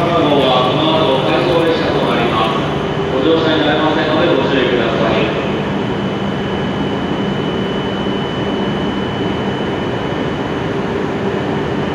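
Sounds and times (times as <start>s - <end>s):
high-pitched whine: 0.0s - 11.9s
train equipment drone: 0.0s - 11.9s.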